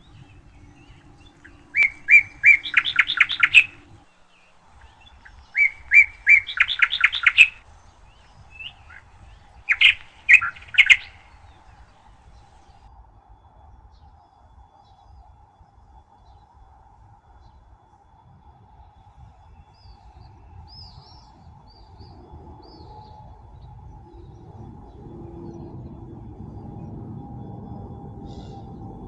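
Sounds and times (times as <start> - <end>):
faint steady hum: 0.0 - 29.0
songbird singing: 0.0 - 29.0.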